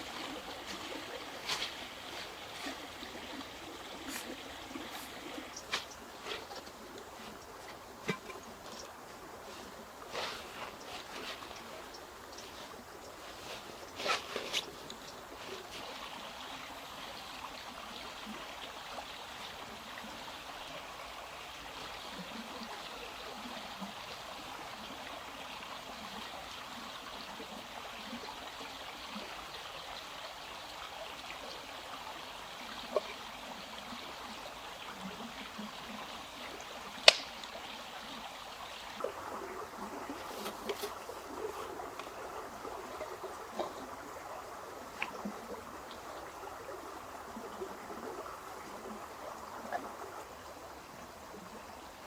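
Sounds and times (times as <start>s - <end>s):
trickling running water: 0.0s - 52.0s.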